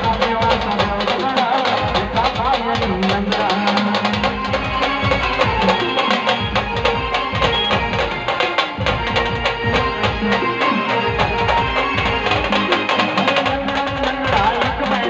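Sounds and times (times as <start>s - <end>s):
folk song with fast drum beat: 0.0s - 15.0s.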